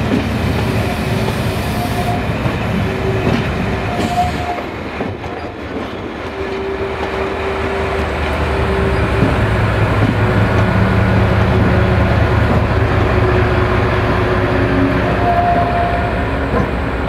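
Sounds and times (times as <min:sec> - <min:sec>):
diesel locomotive passing: 0:00.0 - 0:17.0.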